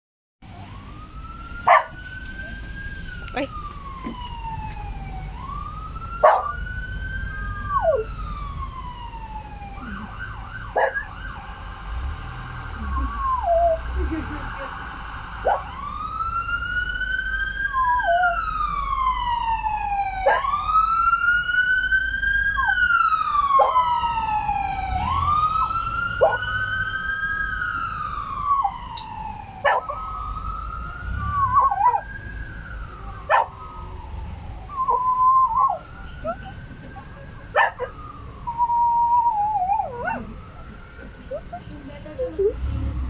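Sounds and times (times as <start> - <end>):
ambulance siren wailing: 0.4 - 43.0.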